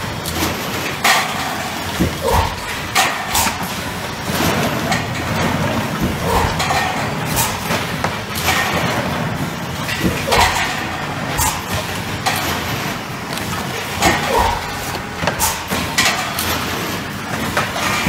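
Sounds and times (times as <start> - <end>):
machine bursts and clanks: 0.0 - 18.0
machine mechanical din: 0.0 - 18.0.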